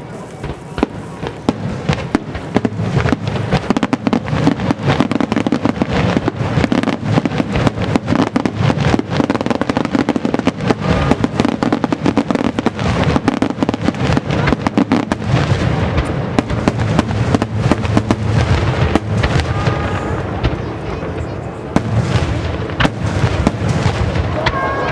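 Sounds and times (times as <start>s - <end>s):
firework booms and crackles: 0.0s - 24.9s
fireworks launching and bursting: 0.0s - 24.9s.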